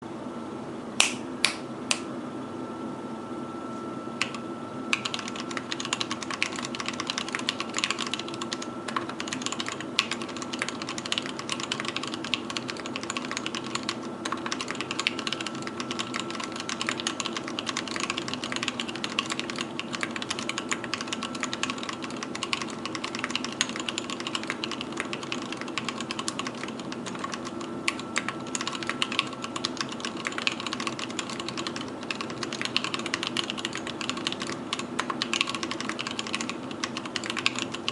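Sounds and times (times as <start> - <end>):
faint steady hum: 0.0 - 37.9
mechanical keyboard typing: 4.2 - 37.9.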